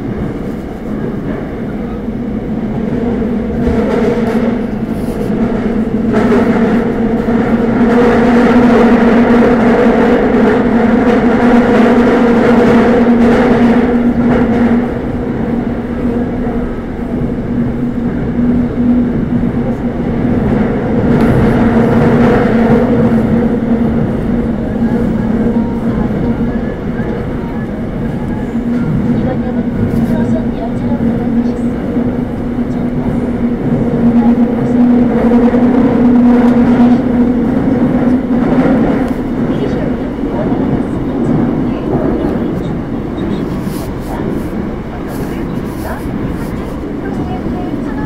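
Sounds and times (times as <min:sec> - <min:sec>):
subway train rumbling: 0:00.0 - 0:48.0.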